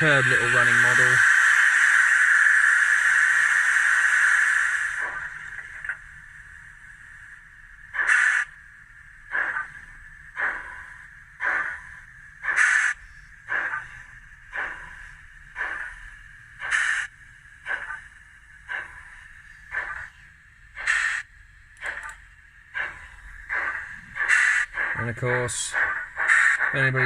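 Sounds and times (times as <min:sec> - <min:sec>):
steam locomotive exhaust chuffs: 0:00.0 - 0:27.0.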